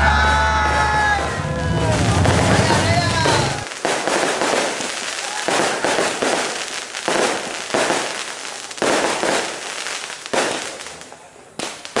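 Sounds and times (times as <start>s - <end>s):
fireworks bursting and crackling: 0.0s - 12.0s.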